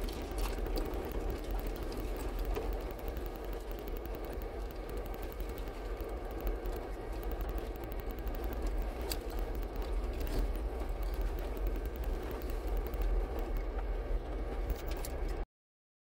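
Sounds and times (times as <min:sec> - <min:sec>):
engine and tyre rumble: 0:00.0 - 0:15.4
sharp clicks and rattles: 0:00.0 - 0:15.4.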